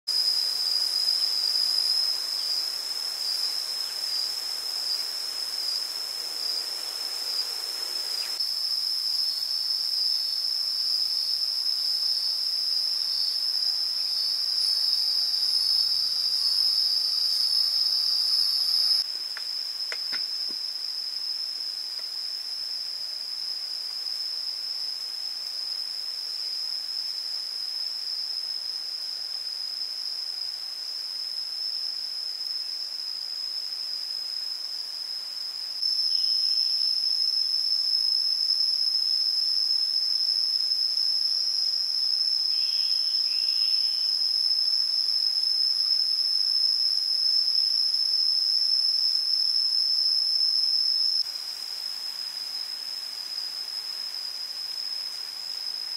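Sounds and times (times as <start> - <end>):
insects buzzing: 0.1 - 55.9.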